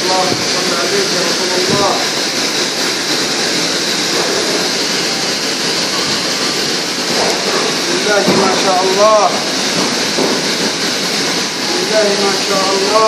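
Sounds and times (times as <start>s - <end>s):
kitchen equipment rushing noise: 0.0s - 13.0s.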